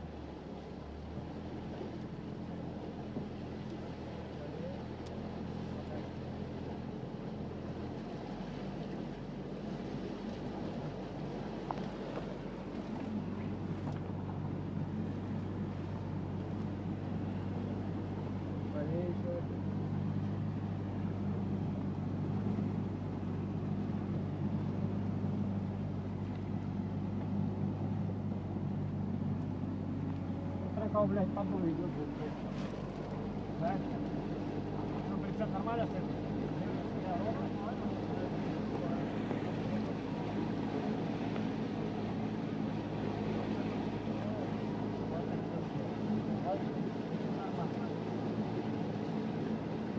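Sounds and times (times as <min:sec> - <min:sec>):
boat engine drone: 0:00.0 - 0:49.9
water and hull noise: 0:00.0 - 0:49.9.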